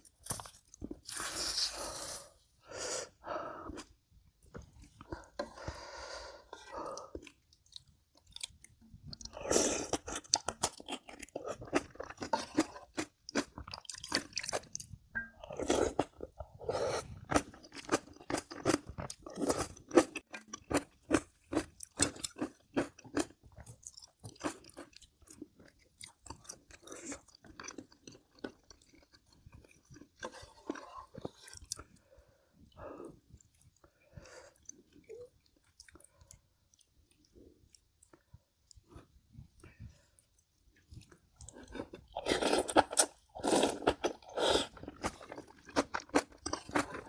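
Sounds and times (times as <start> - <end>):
person chewing crunchy food: 0.0 - 2.4, 3.6 - 47.0.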